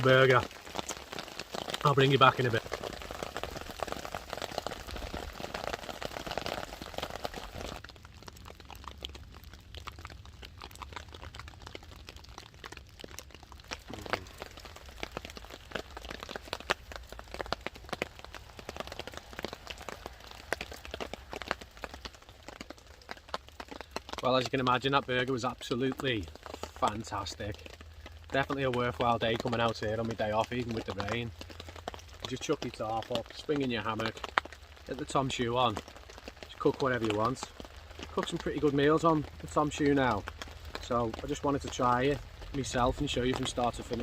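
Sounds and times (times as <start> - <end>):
rain falling and dripping: 0.0 - 44.0.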